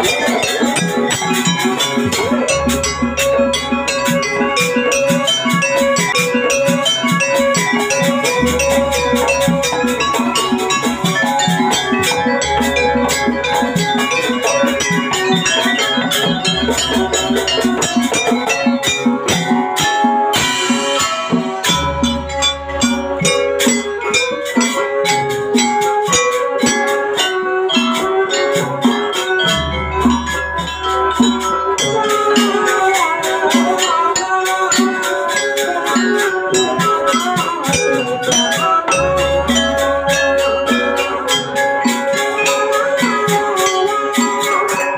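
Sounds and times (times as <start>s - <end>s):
gamelan ensemble drums and metal percussion: 0.0s - 44.9s.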